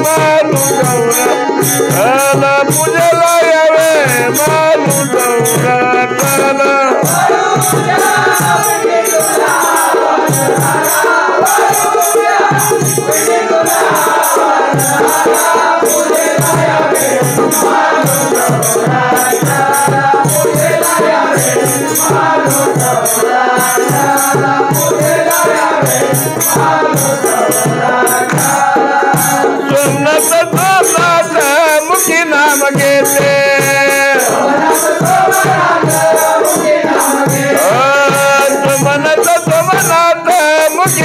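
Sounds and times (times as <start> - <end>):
dholki drum beat: 0.0 - 41.0
harmonium melody: 0.0 - 41.0
jingling hand percussion: 0.0 - 41.0.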